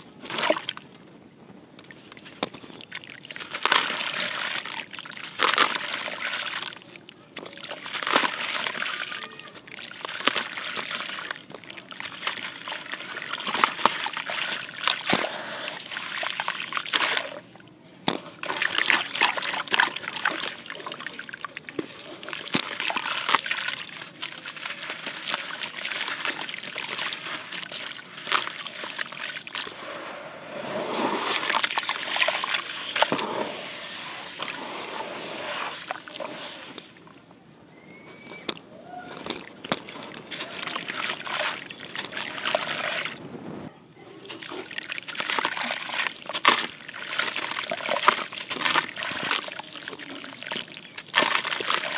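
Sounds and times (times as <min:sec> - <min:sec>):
water splashing and sloshing: 0:00.0 - 0:01.0, 0:01.8 - 0:37.5, 0:38.1 - 0:43.4, 0:44.0 - 0:51.9
hands swishing through water: 0:01.9 - 0:06.8, 0:07.4 - 0:17.4, 0:18.1 - 0:37.2, 0:38.1 - 0:51.9.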